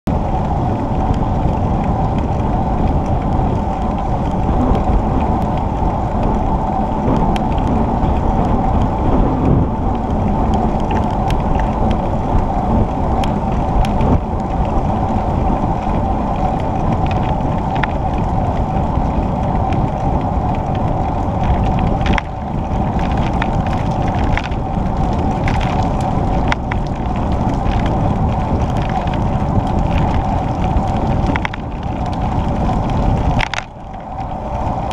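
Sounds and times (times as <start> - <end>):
bicycle tyres on asphalt: 0.1 - 34.9
wind noise: 0.1 - 34.9
small clicks and rattles: 0.2 - 34.9.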